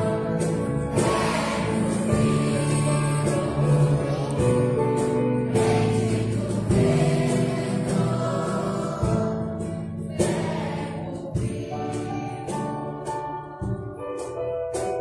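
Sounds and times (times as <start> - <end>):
children's choir singing: 0.0 - 14.4
church band playing: 0.0 - 15.0.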